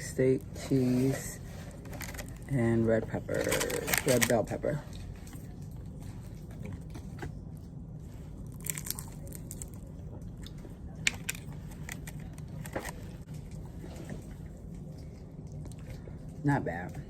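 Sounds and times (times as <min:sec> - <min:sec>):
steady low hum: 0:00.0 - 0:17.0
person chewing crispy food: 0:01.6 - 0:02.5, 0:03.2 - 0:16.4.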